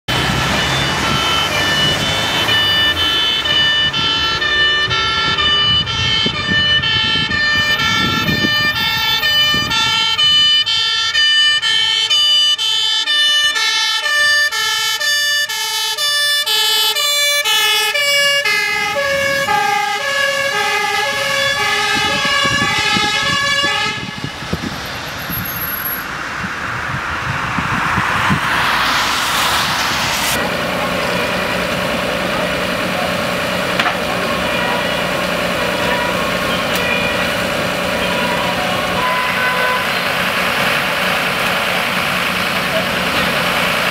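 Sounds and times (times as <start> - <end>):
truck engine: 0.0 - 43.9
two-tone fire engine siren: 0.1 - 26.0, 26.6 - 43.9
traffic noise: 0.1 - 43.9.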